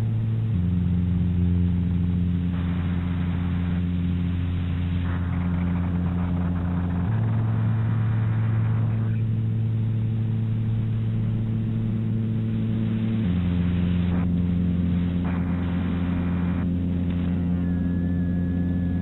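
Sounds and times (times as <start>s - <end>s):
low electronic drone: 0.0s - 19.0s.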